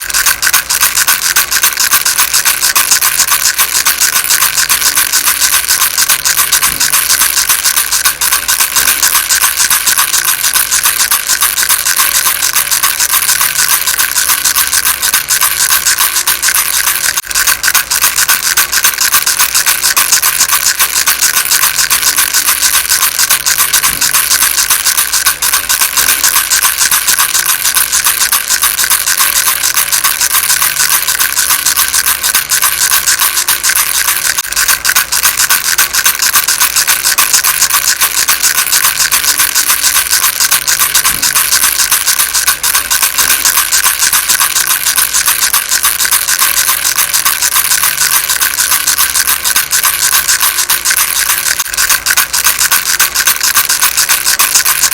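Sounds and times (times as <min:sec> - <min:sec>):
baby rattle shaken: 0:00.0 - 0:54.9.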